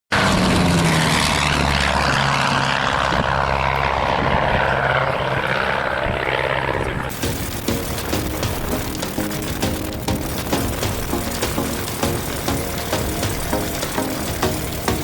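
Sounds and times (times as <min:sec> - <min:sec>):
aircraft propeller engines roaring: 0:00.1 - 0:15.0.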